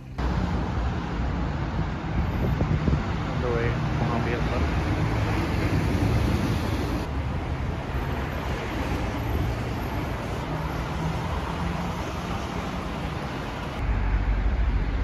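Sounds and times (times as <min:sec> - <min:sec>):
passing cars rumbling: 0:00.0 - 0:15.0.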